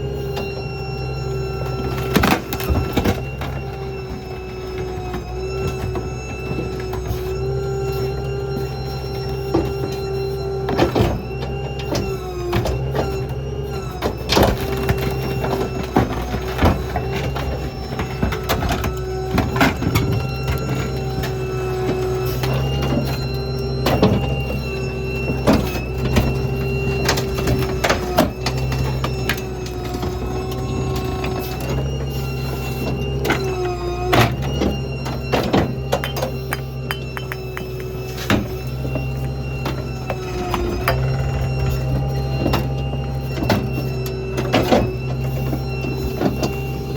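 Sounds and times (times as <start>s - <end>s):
garbage truck whine and hum: 0.0s - 46.9s.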